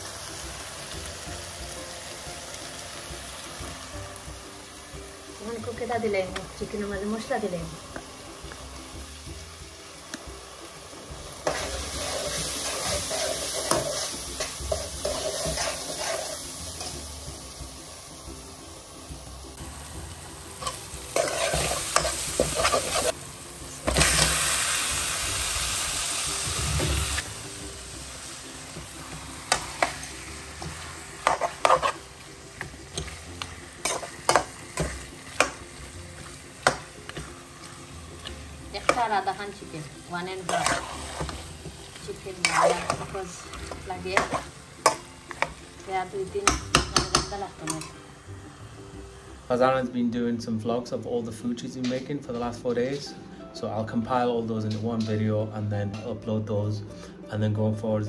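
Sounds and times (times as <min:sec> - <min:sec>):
masala sizzling in pan: 0:00.0 - 0:50.6.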